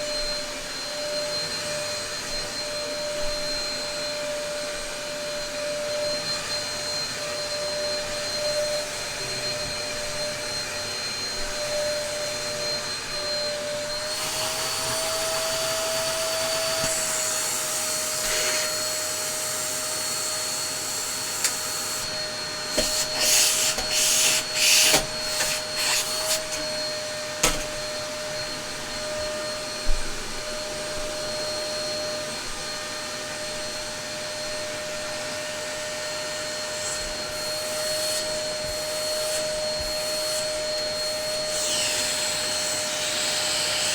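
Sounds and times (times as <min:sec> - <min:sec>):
upright vacuum cleaner running: 0:00.0 - 0:43.9.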